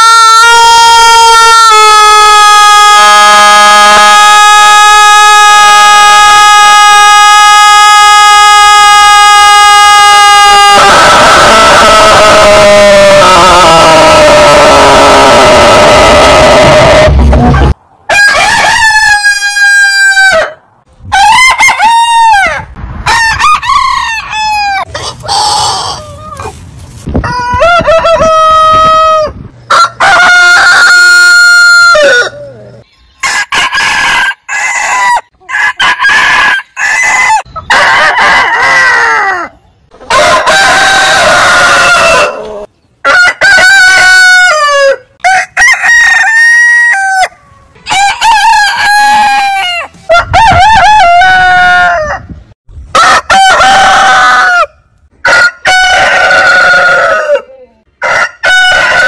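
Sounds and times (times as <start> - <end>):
roosters crowing: 0.0 - 26.4, 27.2 - 32.5, 40.1 - 52.2, 52.9 - 59.0.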